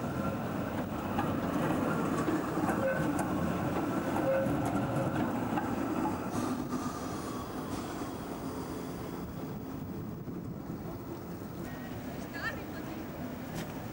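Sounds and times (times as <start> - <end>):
tram wheels rumbling on rail: 0.0 - 13.9.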